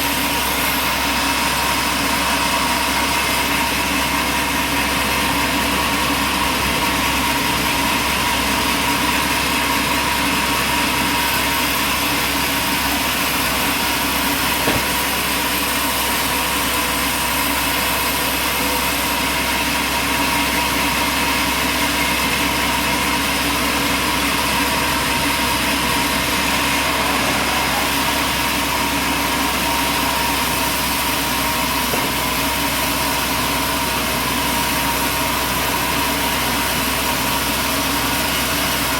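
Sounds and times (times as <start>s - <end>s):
machinery drone: 0.0s - 38.9s.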